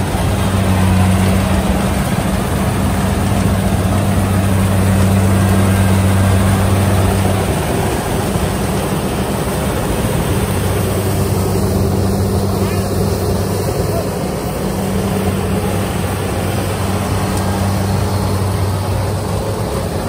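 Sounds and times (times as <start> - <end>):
harvester engine humming: 0.0 - 20.0
rushing noise of threshing: 0.0 - 20.0.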